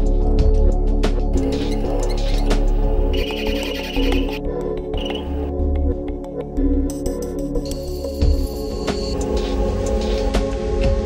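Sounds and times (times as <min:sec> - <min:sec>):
background music with percussion: 0:00.0 - 0:11.0.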